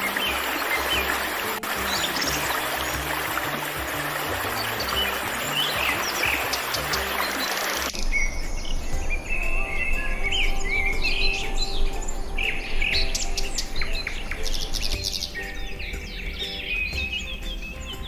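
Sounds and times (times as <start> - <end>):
rushing water-like hiss: 0.0 - 18.0
small birds chirping and trilling: 0.0 - 18.0.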